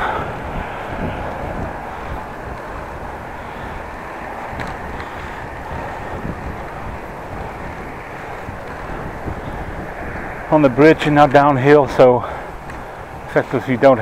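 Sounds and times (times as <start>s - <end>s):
wind rushing: 0.0s - 13.8s
bicycle road noise: 0.0s - 14.0s.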